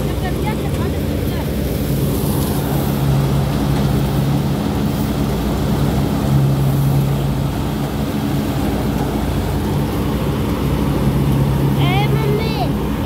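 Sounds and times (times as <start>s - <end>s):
threshing machine droning: 0.0s - 13.0s.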